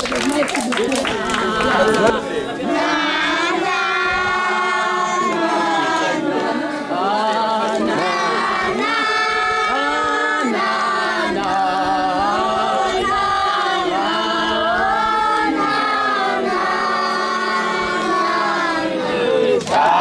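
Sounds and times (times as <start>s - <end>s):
children singing in chorus: 1.0s - 20.0s.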